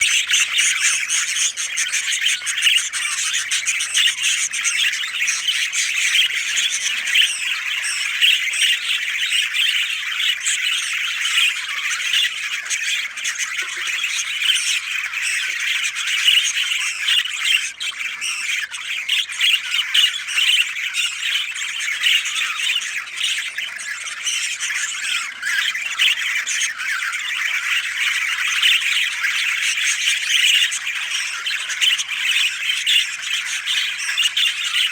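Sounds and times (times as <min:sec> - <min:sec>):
flock of birds chattering: 0:00.0 - 0:34.9.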